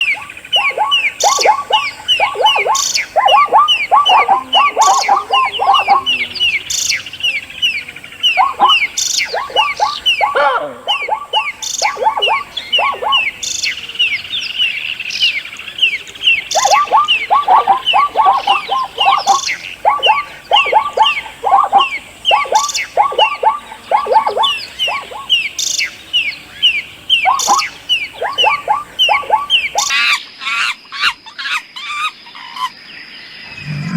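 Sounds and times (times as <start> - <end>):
birds chirping rapidly: 0.0 - 30.8.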